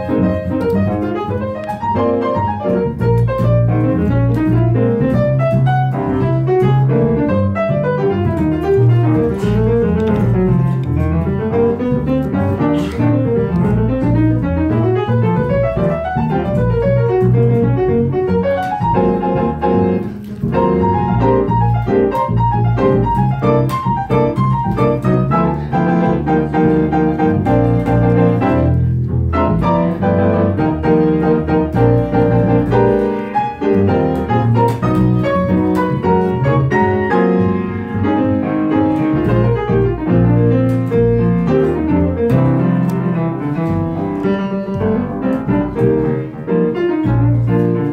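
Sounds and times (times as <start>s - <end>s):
piano playing quick runs: 0.0s - 47.9s.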